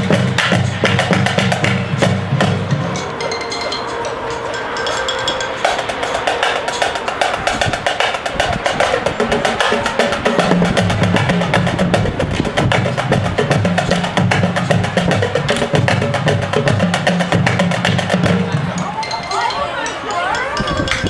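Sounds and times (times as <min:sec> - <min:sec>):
drumline rapid stick strokes: 0:00.0 - 0:21.0.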